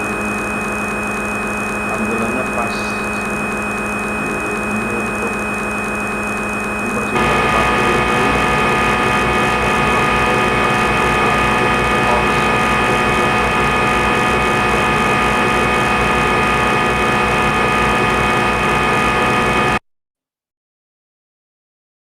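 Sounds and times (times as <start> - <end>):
machine whine: 0.0 - 19.8
motor and drive noise: 0.0 - 19.8.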